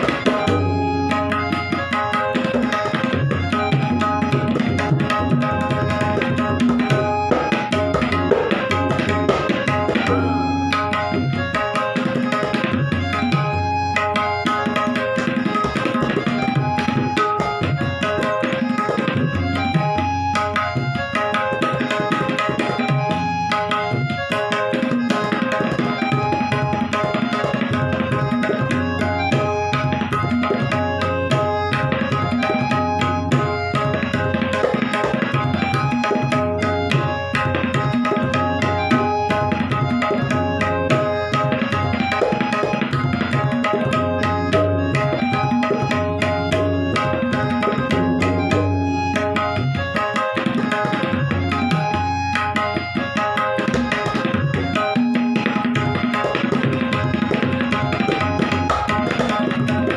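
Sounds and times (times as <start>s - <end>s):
ringing high tabla strokes: 0.0s - 59.9s.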